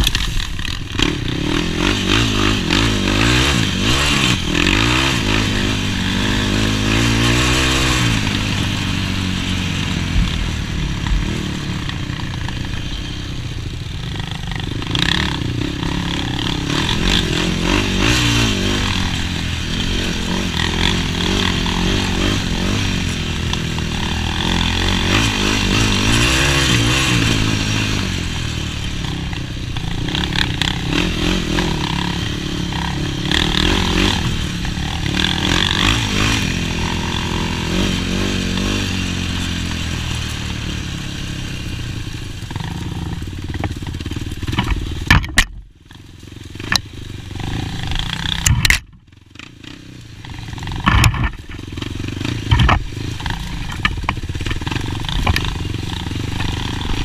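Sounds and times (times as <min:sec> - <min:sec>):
quad engine revving: 0:00.0 - 0:45.5, 0:46.4 - 0:57.0.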